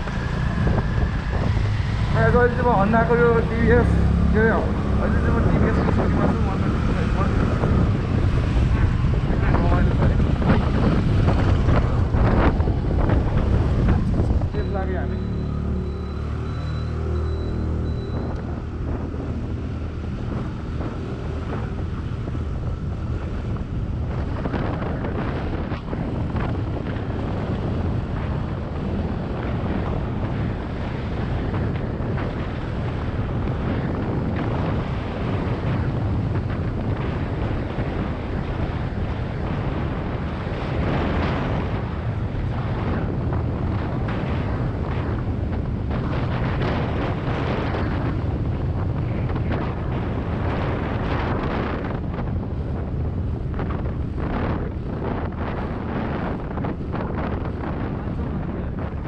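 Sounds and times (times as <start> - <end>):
engine and tyre rumble: 0.0 - 59.0
wind buffeting microphone: 0.0 - 59.0.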